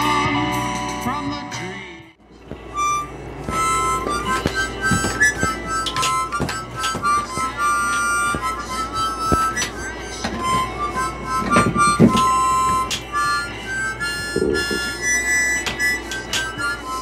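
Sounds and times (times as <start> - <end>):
harmonica playing high notes: 2.5 - 17.0
breathy puffs: 2.7 - 17.0.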